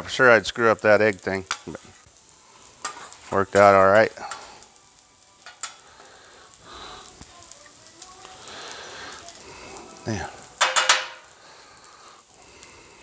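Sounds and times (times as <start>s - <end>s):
food sizzling on a griddle: 0.0s - 13.0s
metal spatula clicking on griddle: 1.0s - 1.9s, 2.6s - 12.2s.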